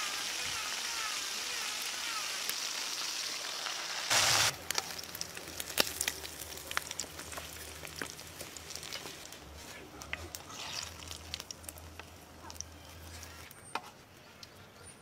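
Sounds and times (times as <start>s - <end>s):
frogs sizzling in hot oil: 0.0s - 9.4s, 10.3s - 13.4s
oil crackling: 0.8s - 13.5s.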